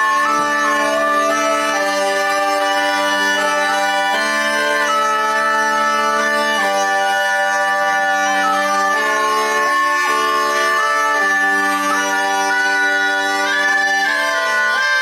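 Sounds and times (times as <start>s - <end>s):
bagpipe music: 0.0s - 15.0s.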